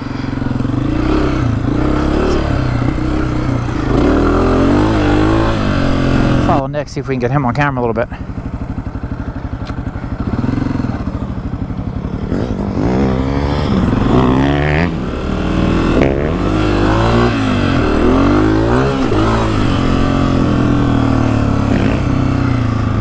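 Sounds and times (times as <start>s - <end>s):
dirt bike engine revving: 0.0s - 7.2s, 7.8s - 23.0s.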